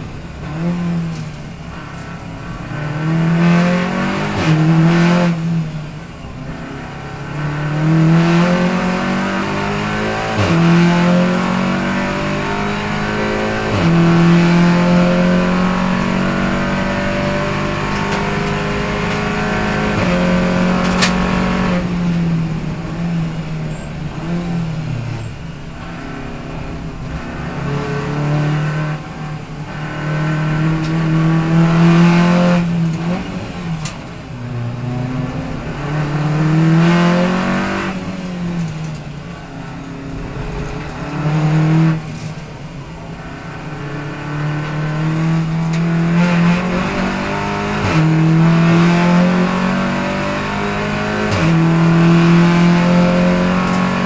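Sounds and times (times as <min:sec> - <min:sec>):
race car engine revving: 0:00.0 - 0:54.0
road and wind noise: 0:00.0 - 0:54.0.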